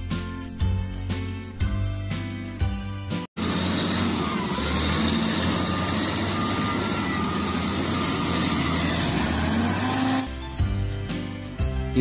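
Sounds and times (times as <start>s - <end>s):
diesel engines rumbling: 1.4s - 12.0s.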